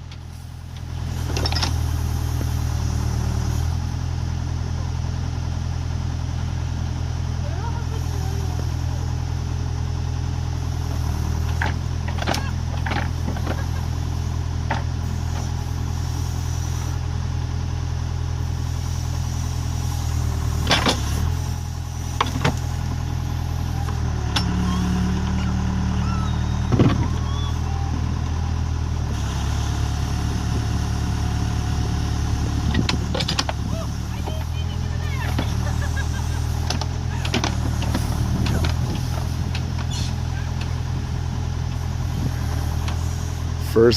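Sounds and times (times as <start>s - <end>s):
diesel backhoe engine running: 0.0s - 43.9s.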